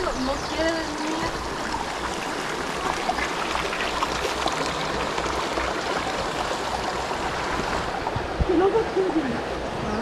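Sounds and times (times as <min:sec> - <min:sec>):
creek water rushing over stones: 0:00.0 - 0:10.0.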